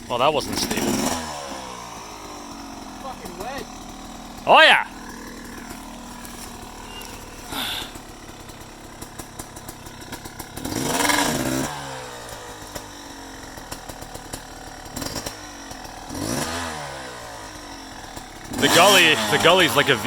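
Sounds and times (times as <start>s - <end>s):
small off-road engine revving: 0.0s - 20.0s.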